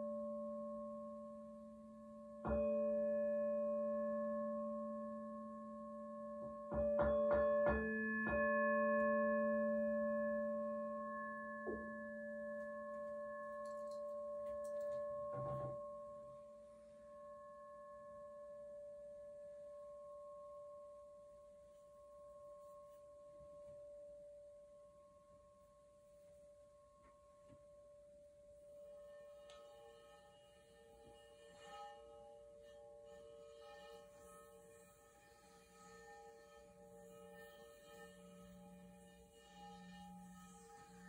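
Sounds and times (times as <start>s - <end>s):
crystal singing bowls ringing: 0.0s - 41.0s.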